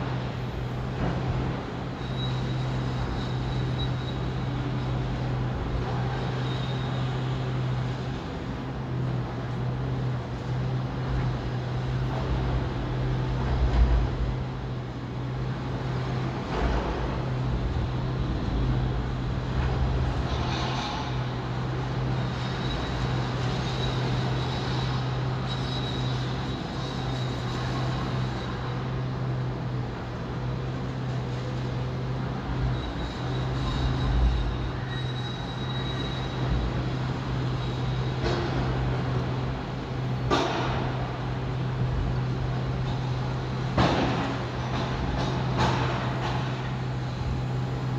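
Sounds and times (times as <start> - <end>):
heavy diesel engine drone: 0.0 - 47.9.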